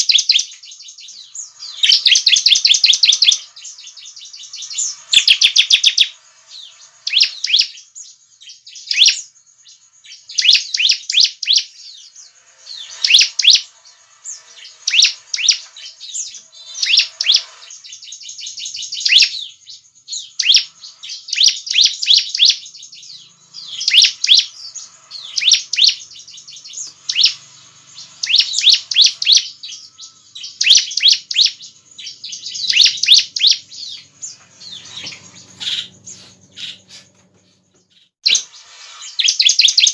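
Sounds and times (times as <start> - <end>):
bird sharp chirping song: 0.0 - 39.9.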